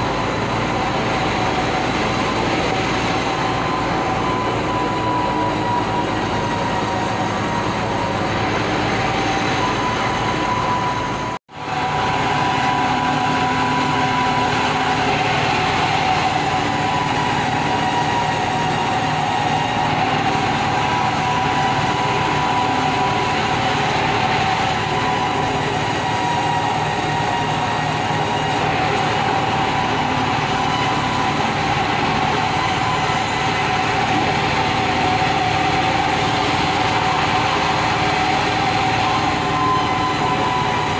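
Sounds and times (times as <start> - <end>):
bandsaw machinery running: 0.0 - 40.9
steady saw whine: 0.0 - 40.9.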